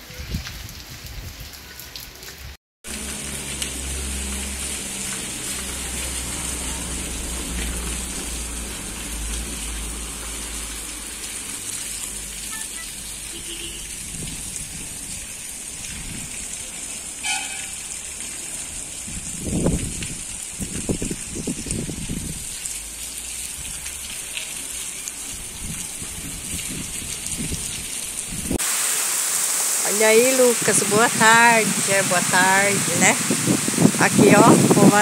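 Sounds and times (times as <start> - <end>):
steady rain hissing: 0.0 - 35.0.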